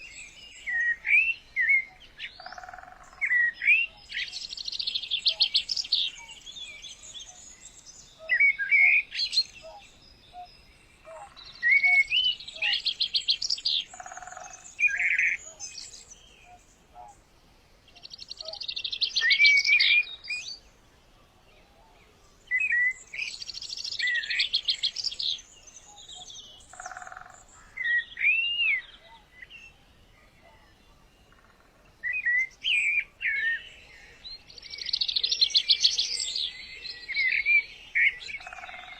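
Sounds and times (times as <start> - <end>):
bird singing whistles and trills: 0.0 - 17.2, 18.0 - 20.6, 21.8 - 38.9.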